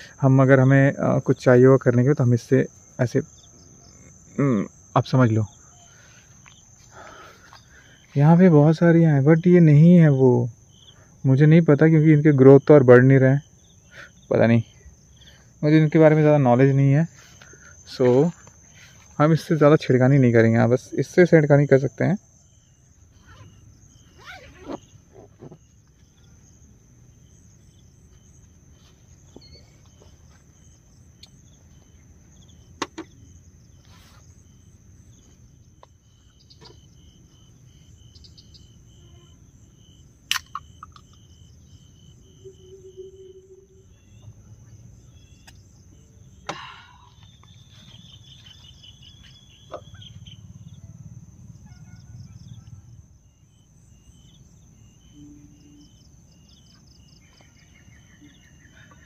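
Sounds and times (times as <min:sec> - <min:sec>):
insect chirping in quick pulses: 0:00.0 - 0:59.0
insects trilling: 0:00.0 - 0:59.0.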